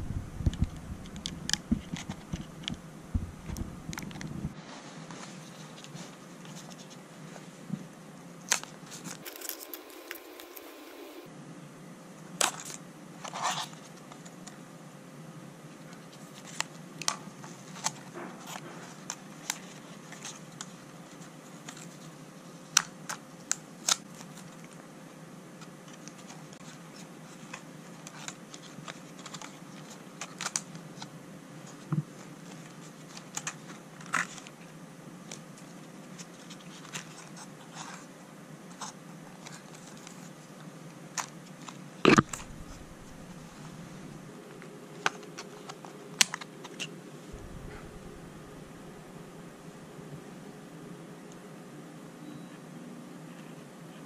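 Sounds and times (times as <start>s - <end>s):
faint steady hiss: 0.0s - 18.0s, 19.0s - 54.0s.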